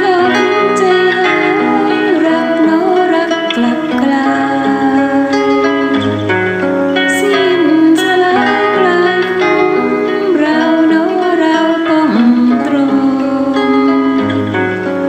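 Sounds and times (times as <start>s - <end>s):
person singing wavering melody: 0.0s - 6.2s, 7.0s - 14.6s
fingerstyle acoustic guitar: 0.0s - 15.0s.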